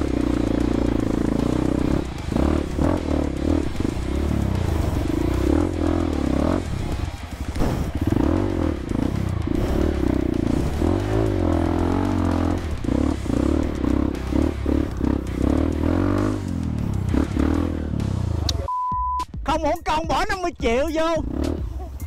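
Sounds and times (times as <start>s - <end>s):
dirt bike engine revving: 0.0s - 18.5s, 21.2s - 21.8s.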